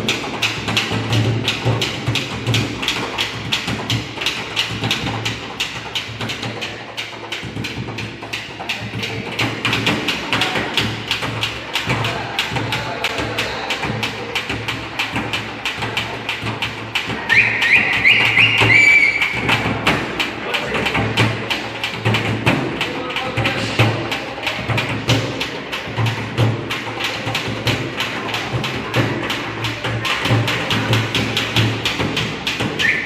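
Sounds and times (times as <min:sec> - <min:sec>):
fast sharp percussion taps: 0:00.0 - 0:33.0.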